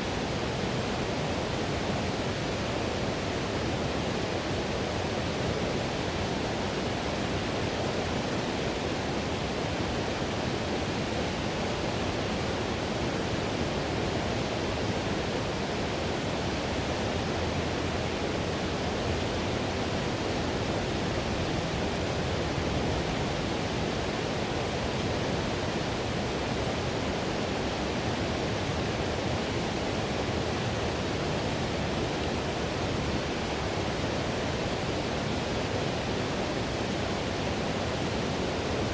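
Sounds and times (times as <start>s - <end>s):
river whitewater rushing: 0.0s - 38.9s.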